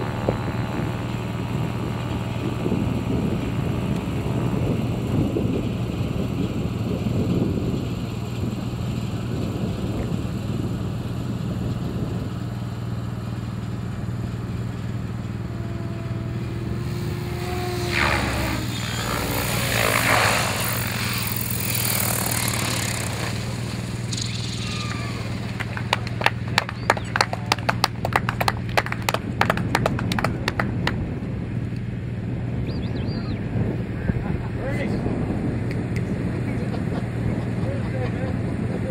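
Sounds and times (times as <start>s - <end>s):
model helicopter drone: 0.0s - 38.9s.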